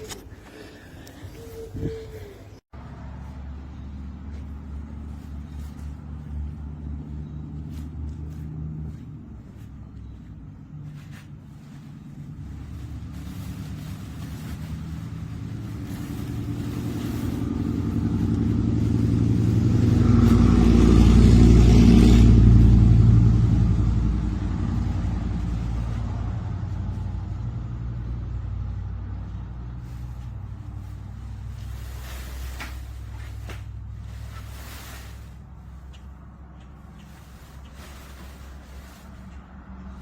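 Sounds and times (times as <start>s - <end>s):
vehicle driving past: 2.8s - 11.1s, 11.7s - 40.0s.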